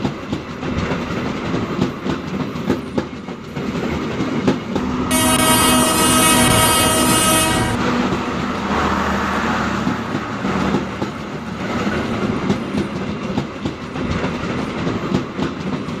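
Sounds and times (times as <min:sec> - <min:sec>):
train rushing noise: 0:00.0 - 0:16.0.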